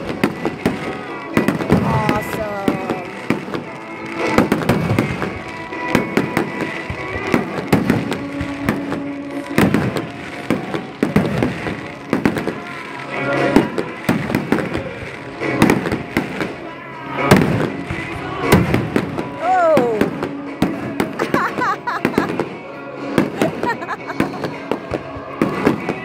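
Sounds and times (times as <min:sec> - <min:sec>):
music: 0:00.0 - 0:26.0.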